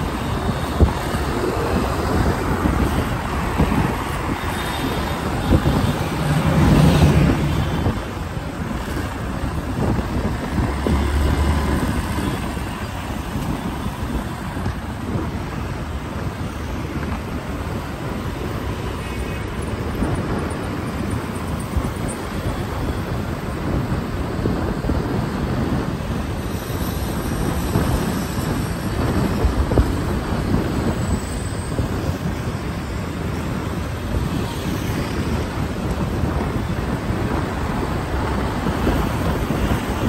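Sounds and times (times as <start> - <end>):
traffic engines and tyres rumbling: 0.0 - 40.0
wind buffeting microphone: 0.0 - 40.0.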